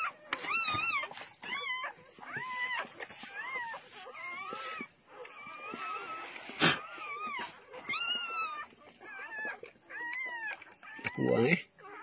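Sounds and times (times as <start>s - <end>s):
dog whining: 0.0s - 12.0s.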